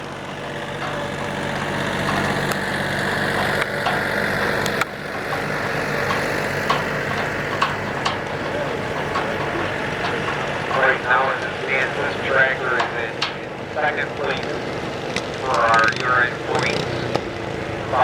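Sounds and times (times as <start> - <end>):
tractor engine running hard: 0.0 - 18.0.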